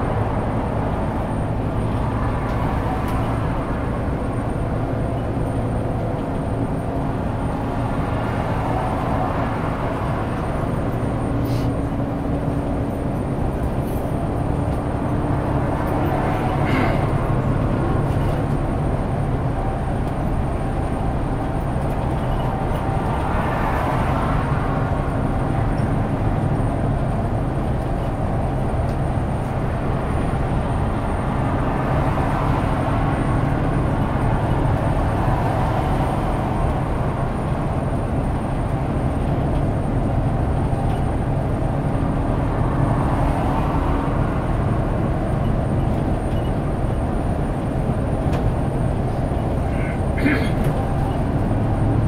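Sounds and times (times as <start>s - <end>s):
bus diesel engine drone: 0.0s - 52.0s
tyre and road noise: 0.0s - 52.0s.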